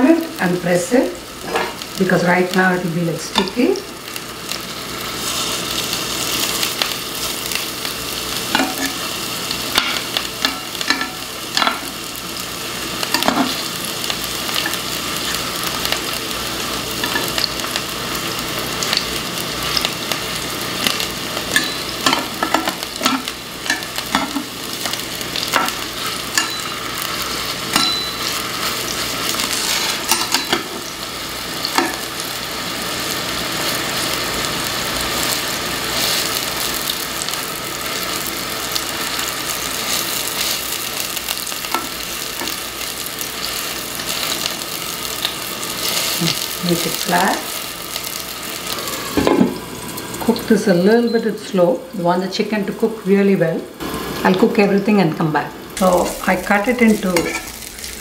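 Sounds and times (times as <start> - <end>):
sausage patties sizzling in oil: 0.0 - 58.0.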